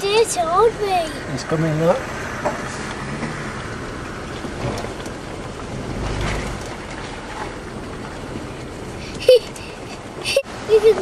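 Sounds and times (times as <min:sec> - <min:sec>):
vehicle rumble inside cabin: 0:00.0 - 0:11.0.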